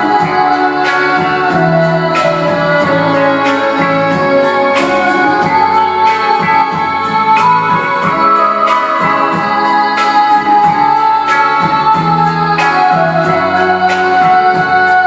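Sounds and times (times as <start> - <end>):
pop ballad with keyboard and guitar: 0.0 - 15.0.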